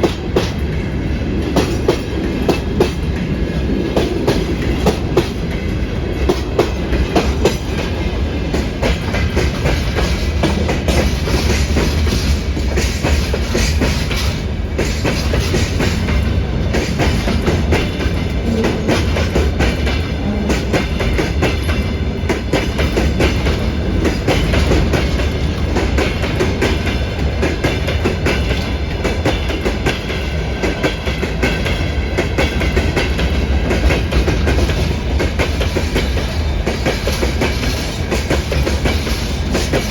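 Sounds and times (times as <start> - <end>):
freight train wheels clattering: 0.0 - 39.9
train low rumble: 0.0 - 39.9.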